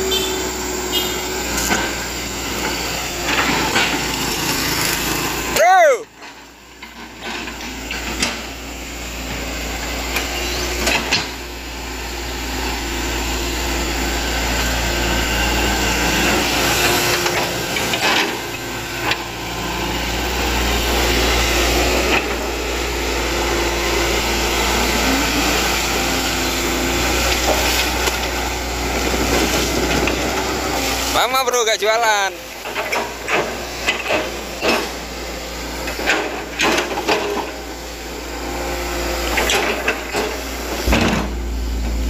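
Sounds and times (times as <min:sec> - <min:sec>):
excavator engine and hydraulic hum: 0:00.0 - 0:42.0.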